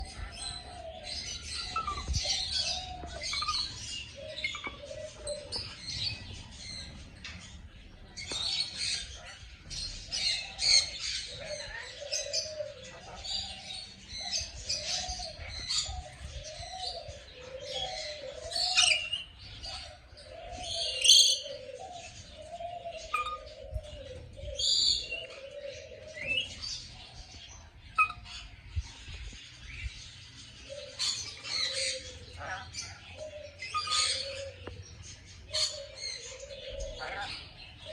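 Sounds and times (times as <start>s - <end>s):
birds chirping and twittering: 0.0s - 37.9s.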